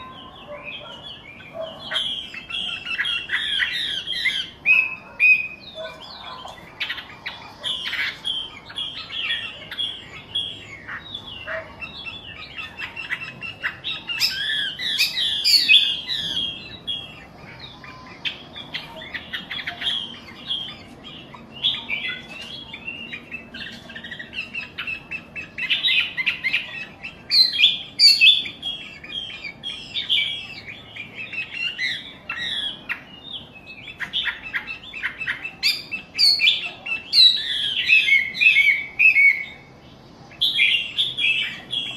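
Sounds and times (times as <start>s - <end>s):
songbird chirping and twittering: 0.0s - 41.9s.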